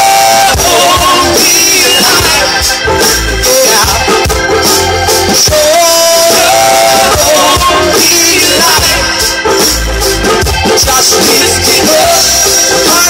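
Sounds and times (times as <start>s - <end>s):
person singing: 0.0s - 9.6s, 10.3s - 13.0s
bass guitar: 0.0s - 13.0s
drums: 0.0s - 13.0s
electric guitars: 0.0s - 13.0s.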